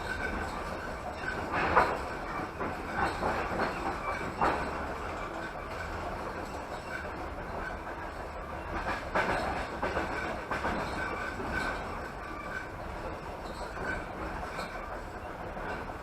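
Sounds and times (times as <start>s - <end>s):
clacks over rail joints: 0.0s - 16.0s
train wheels rumbling on rails: 0.0s - 16.0s.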